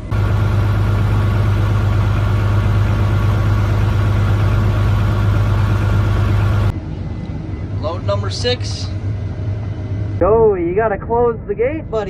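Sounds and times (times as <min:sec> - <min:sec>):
combine harvester engine hum: 0:00.0 - 0:12.0.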